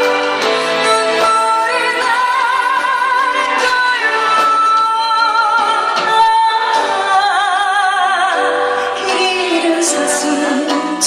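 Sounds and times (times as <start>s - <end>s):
instrumental backing: 0.0s - 11.0s
woman singing a ballad: 0.4s - 11.0s.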